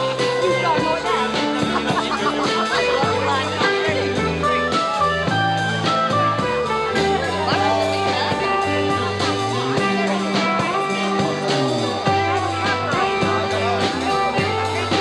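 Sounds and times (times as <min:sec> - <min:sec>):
bass line: 0:00.0 - 0:15.0
drum beat: 0:00.0 - 0:15.0
electric guitar lines: 0:00.0 - 0:15.0
rhythm guitar: 0:00.0 - 0:15.0.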